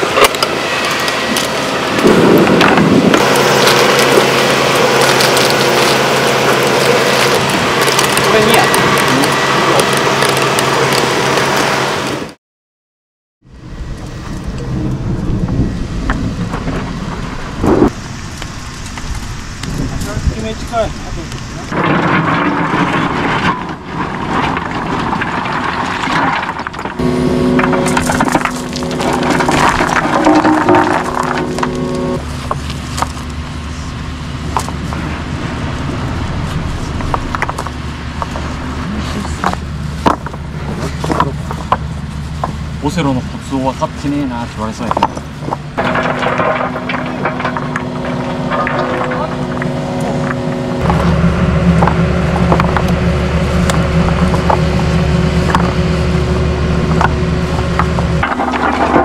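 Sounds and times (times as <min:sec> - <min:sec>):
excavator engine rumble: 0:00.0 - 0:12.4, 0:13.4 - 0:59.0.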